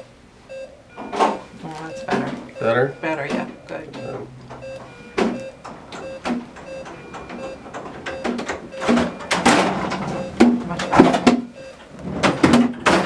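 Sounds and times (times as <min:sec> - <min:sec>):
patient monitor beeping: 0:00.0 - 0:13.0.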